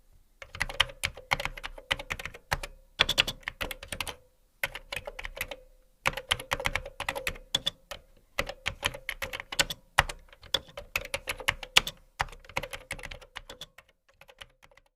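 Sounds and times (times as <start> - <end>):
computer keyboard typing: 0.4 - 14.9.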